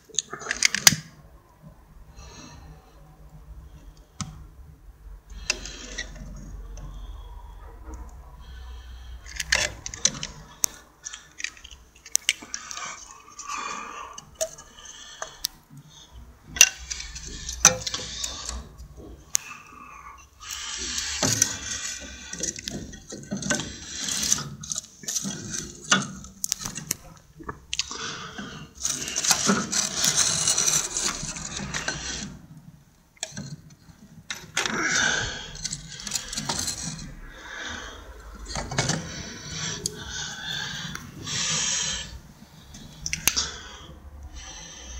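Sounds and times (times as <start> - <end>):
rustling or scraping: 5.3 - 44.9.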